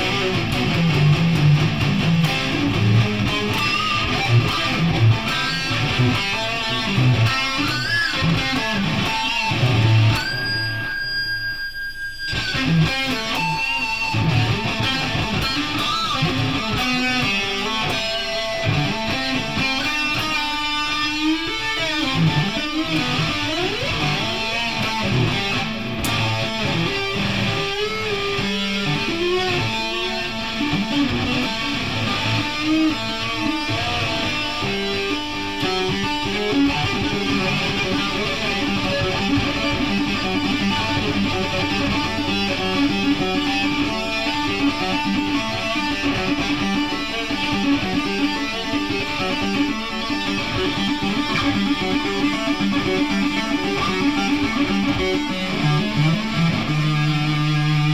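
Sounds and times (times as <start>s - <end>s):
electric guitar music: 0.0s - 57.9s.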